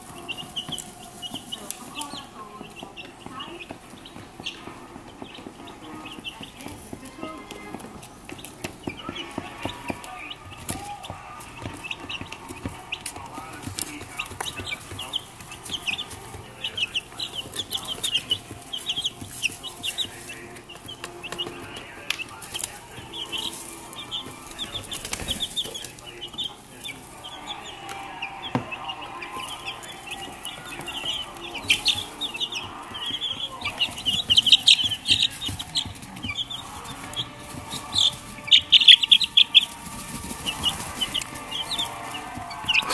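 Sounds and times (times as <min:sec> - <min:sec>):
chicks peeping: 0:00.0 - 0:42.9
scratching in wood shavings: 0:00.0 - 0:42.9.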